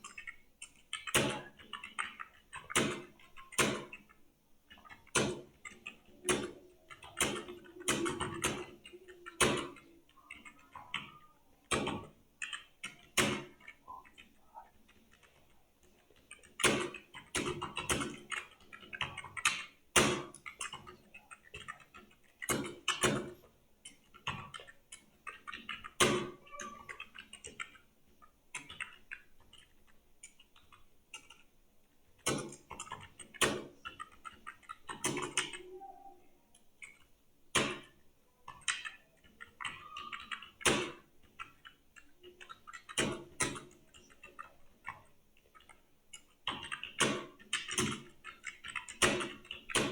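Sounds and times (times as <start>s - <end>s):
computer keyboard typing: 0.0s - 49.9s.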